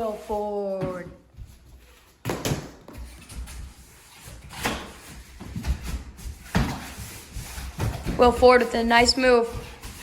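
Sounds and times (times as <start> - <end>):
hockey sticks and ball clattering: 0.0 - 10.0.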